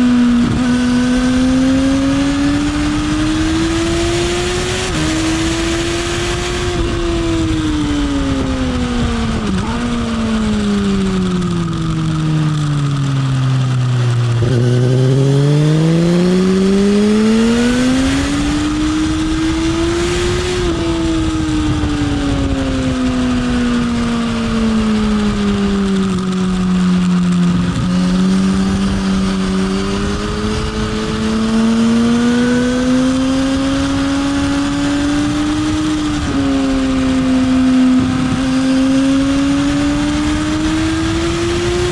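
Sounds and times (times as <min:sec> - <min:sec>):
motorcycle engine: 0:00.0 - 0:41.9
wind rushing over microphone: 0:00.0 - 0:41.9.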